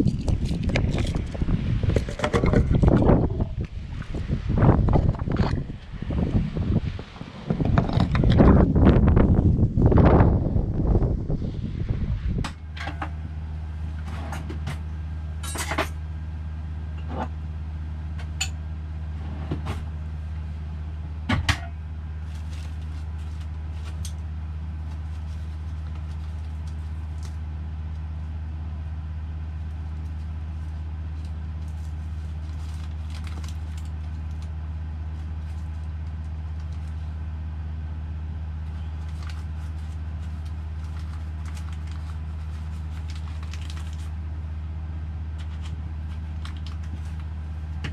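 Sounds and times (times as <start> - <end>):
low mechanical hum: 0.0 - 47.9.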